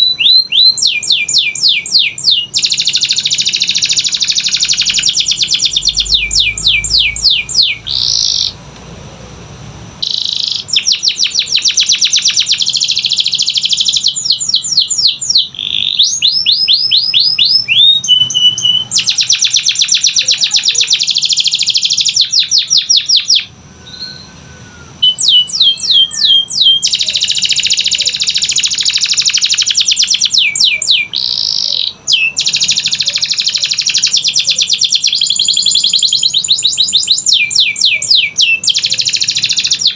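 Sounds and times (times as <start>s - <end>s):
canary singing trills: 0.0s - 8.6s, 10.0s - 39.9s.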